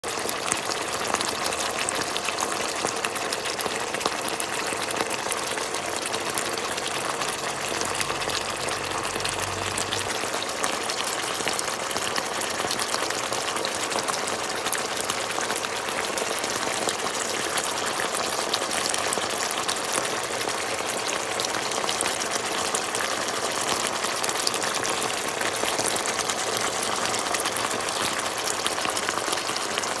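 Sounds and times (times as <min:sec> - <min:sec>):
sauce bubbling and sizzling in pan: 0:00.0 - 0:30.0.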